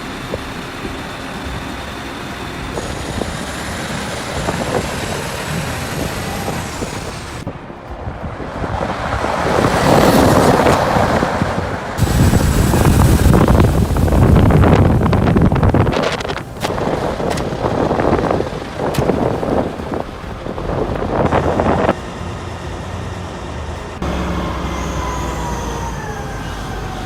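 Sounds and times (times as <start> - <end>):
heavy truck running: 0.0 - 27.0.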